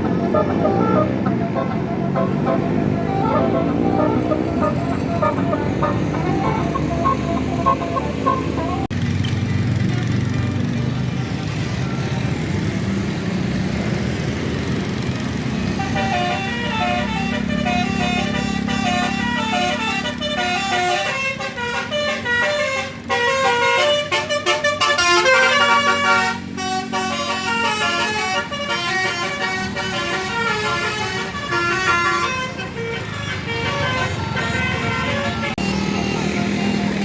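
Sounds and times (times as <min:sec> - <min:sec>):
bus horns playing tunes: 0:00.0 - 0:08.9, 0:15.6 - 0:37.0
bus engine running: 0:00.0 - 0:37.0.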